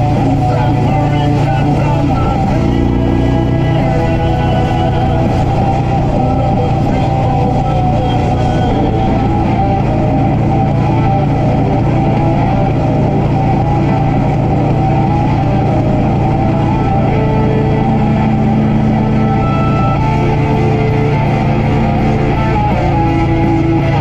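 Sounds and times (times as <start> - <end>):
motorcycle engine running: 0.0 - 24.0
music playing: 0.0 - 24.0
wind rush: 0.0 - 24.0.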